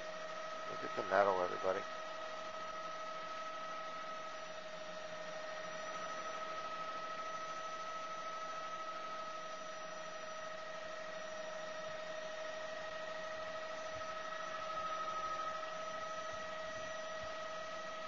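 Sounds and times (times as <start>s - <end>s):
helicopter cabin engine whine: 0.0s - 18.0s.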